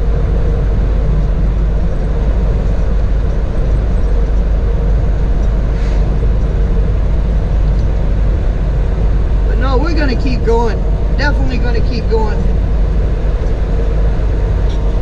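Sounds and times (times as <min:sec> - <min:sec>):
faint steady hum: 0:00.0 - 0:15.0
truck engine and road noise: 0:00.0 - 0:15.0.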